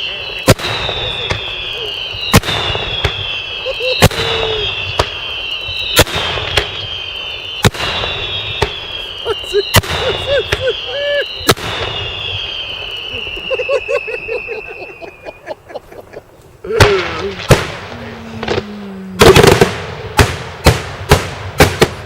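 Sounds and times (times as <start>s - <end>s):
aerial fireworks bursting: 0.0s - 15.2s, 16.7s - 22.0s
descending firework whistle: 0.0s - 15.6s, 16.7s - 22.0s.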